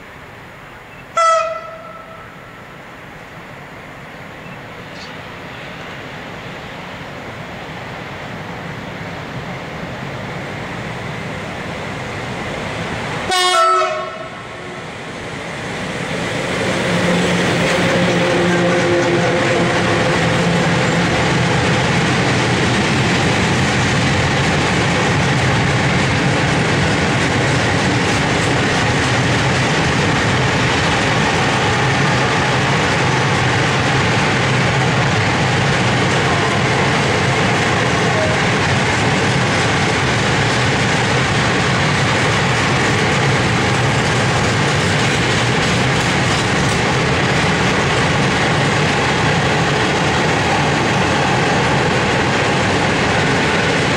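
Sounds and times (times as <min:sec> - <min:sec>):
train wheels running on rails: 0:00.0 - 0:53.9.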